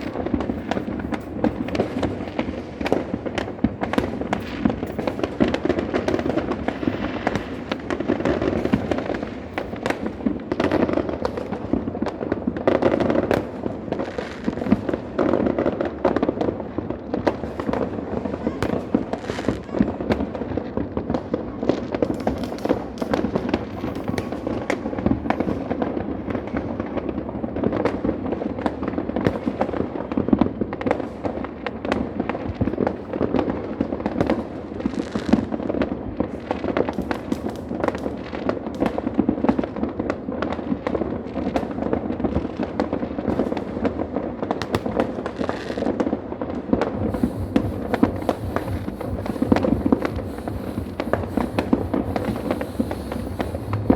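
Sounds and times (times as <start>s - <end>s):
firecrackers and fireworks crackling: 0.0s - 53.9s.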